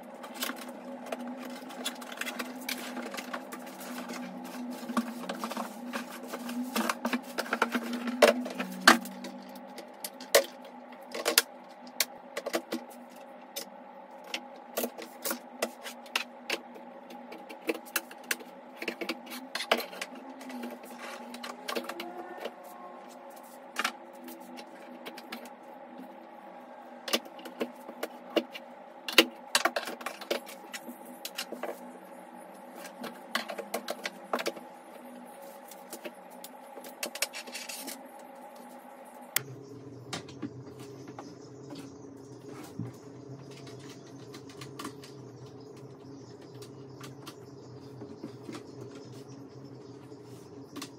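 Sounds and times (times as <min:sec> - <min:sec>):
low hum: 0:00.0 - 0:50.9.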